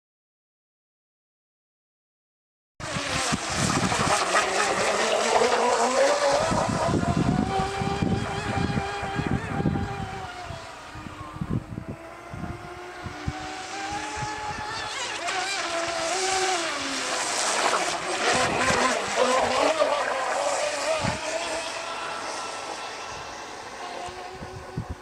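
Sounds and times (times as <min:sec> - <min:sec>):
speedboat motor whine: 0:02.8 - 0:25.0.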